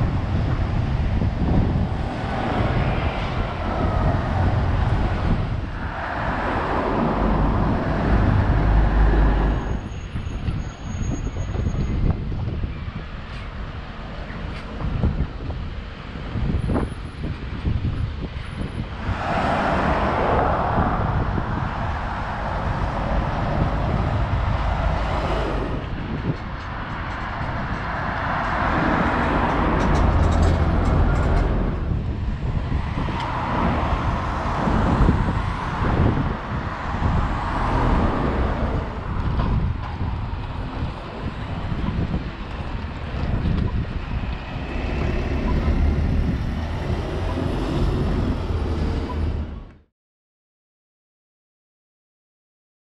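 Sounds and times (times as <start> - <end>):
buses and cars passing: 0.0 - 49.9
low traffic rumble: 0.0 - 49.9.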